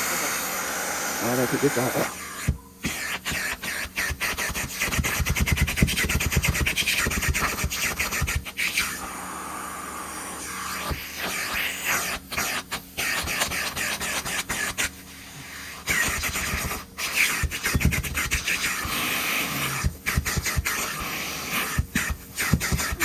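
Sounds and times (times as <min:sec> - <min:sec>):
vacuum cleaner suction hissing: 0:00.0 - 0:23.0.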